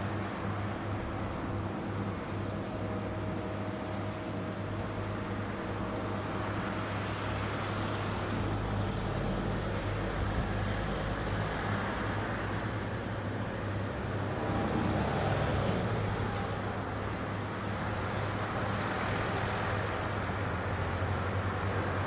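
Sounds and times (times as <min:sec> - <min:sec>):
harvester engine humming: 0:00.1 - 0:22.0.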